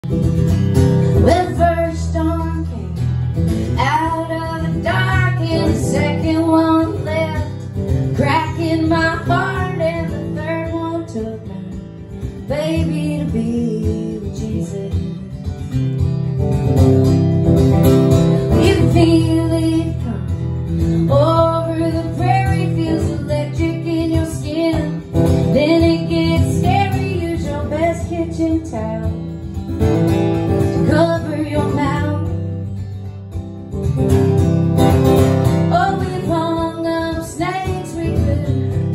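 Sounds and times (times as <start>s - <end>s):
acoustic guitar: 0.0s - 38.9s
woman singing: 1.0s - 15.8s, 18.4s - 29.6s, 30.6s - 32.7s, 35.5s - 38.9s.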